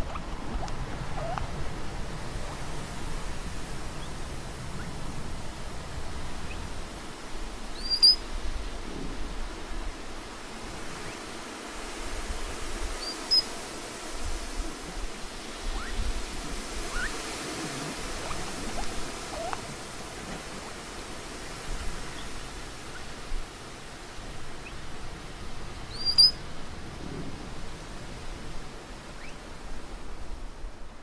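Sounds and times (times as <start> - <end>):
steady outdoor hiss: 0.0 - 31.0.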